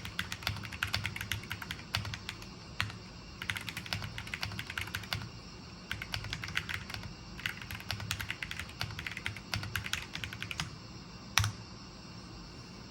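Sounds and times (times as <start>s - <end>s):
mechanical keyboard typing: 0.0s - 5.3s, 5.9s - 10.8s, 11.4s - 11.6s.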